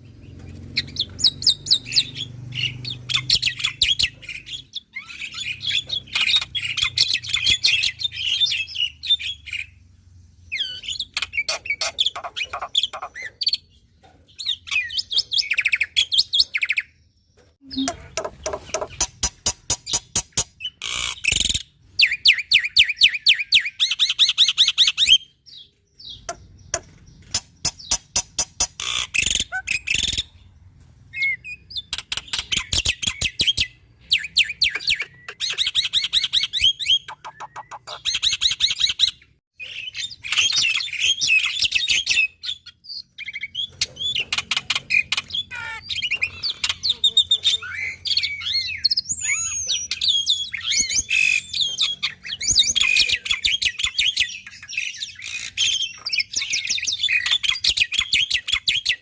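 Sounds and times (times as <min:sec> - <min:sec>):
starling singing: 0:00.0 - 0:09.8, 0:10.5 - 0:13.7, 0:17.6 - 0:30.4, 0:31.2 - 0:59.0.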